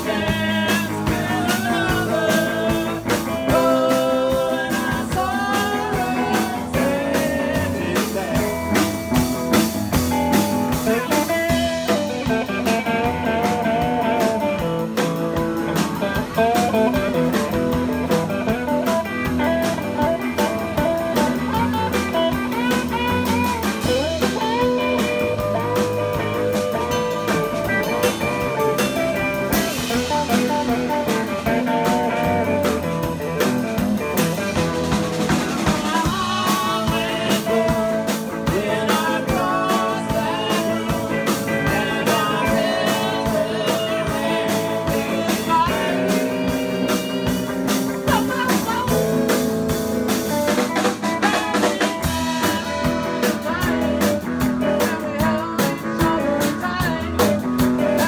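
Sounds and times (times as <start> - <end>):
blues-rock band playing: 0.0 - 58.0
drums steady beat: 0.0 - 58.0
guitar lead with bent notes: 0.0 - 58.0.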